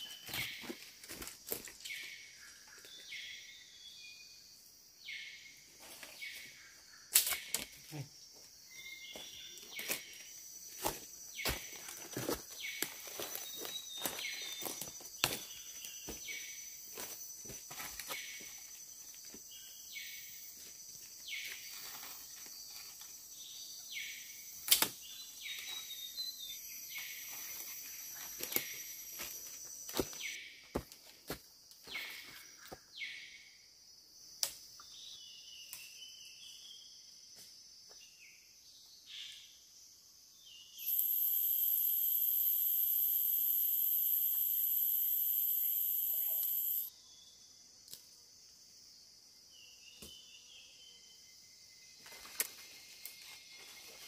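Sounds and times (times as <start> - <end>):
insects high-pitched drone: 0.0 - 30.8, 31.8 - 54.0
loud insect chorus: 0.0 - 54.0.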